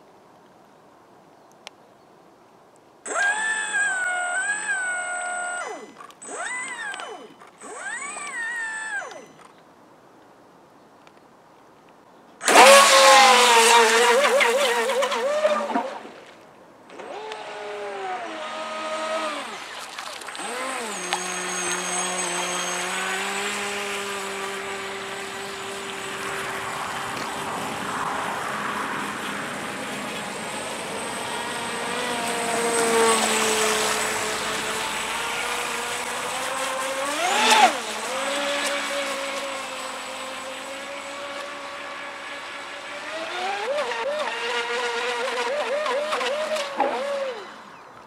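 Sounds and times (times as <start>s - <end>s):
rc boat electric motor whining: 3.1s - 9.6s, 12.4s - 16.3s, 16.9s - 48.0s.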